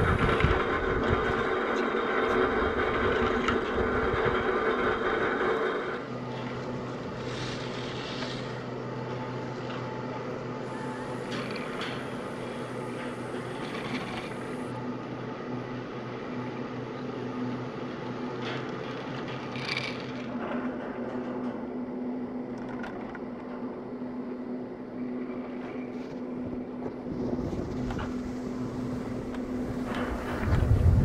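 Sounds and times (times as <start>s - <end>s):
ski lift hum: 0.0s - 31.0s.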